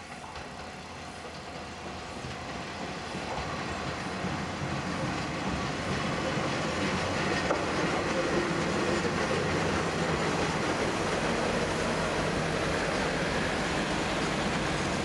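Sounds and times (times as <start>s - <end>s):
diesel railcar engine and wheels: 0.0s - 15.0s.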